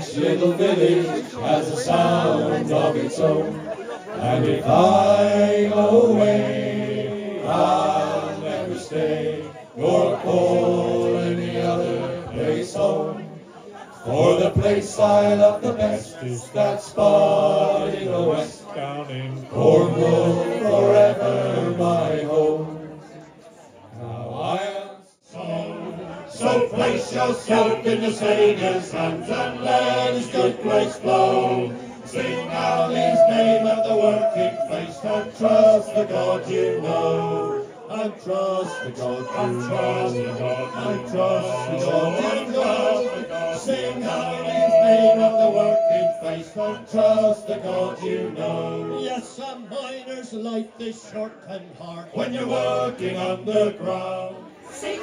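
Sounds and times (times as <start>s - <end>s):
group singing a sea shanty: 0.0s - 23.2s, 24.0s - 49.4s, 51.8s - 55.0s.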